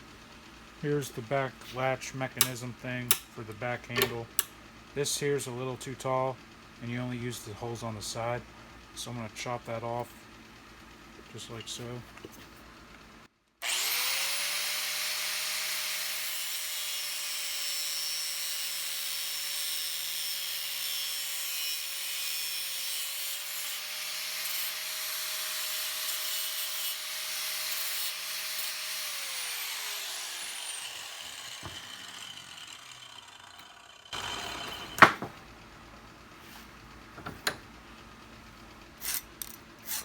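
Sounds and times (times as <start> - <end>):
electric cutting tool grinding: 0.0 - 40.0.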